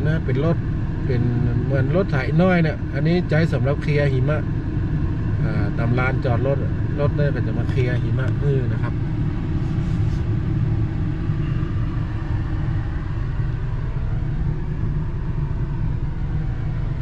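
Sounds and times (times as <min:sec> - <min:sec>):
car cabin rumble: 0:00.0 - 0:17.0.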